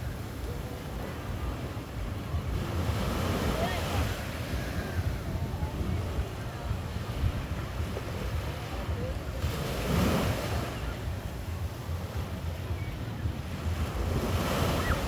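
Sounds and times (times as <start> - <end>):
small waves washing on sand: 0.0 - 15.0
wind rumble on microphone: 0.0 - 15.0.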